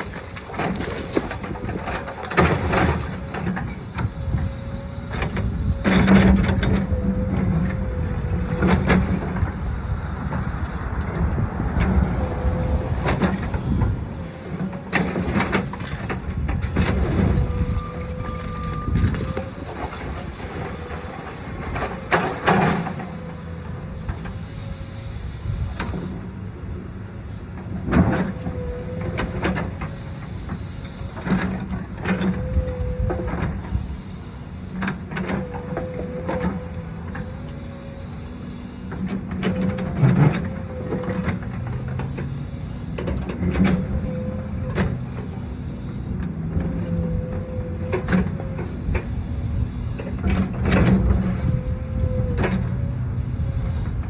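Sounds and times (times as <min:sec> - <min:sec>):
backhoe engine under load: 0:00.0 - 0:54.0
hydraulic whine: 0:00.0 - 0:54.0.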